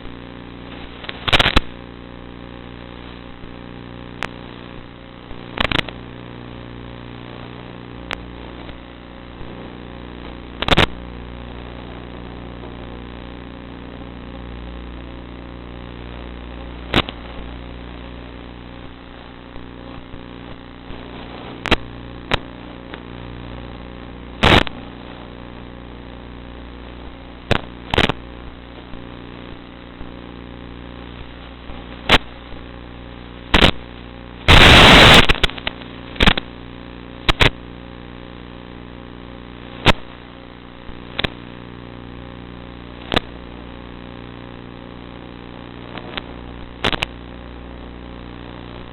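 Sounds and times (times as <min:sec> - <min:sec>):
sharp pops and crackles: 0:00.0 - 0:37.8, 0:38.4 - 0:42.0, 0:42.6 - 0:47.6.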